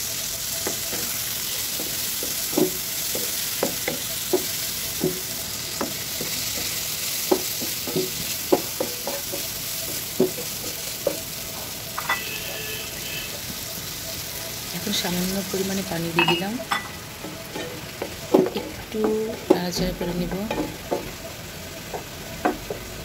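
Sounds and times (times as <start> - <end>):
fish sizzling in oil: 0.0 - 23.0.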